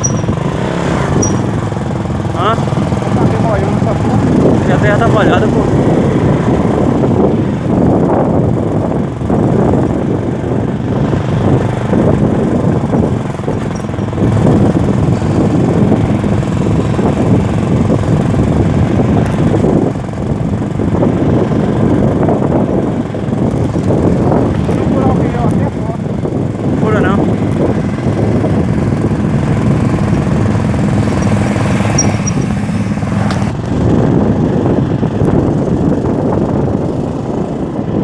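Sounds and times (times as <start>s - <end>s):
road noise: 0.0s - 38.0s
vehicle engine rumble: 0.0s - 38.0s.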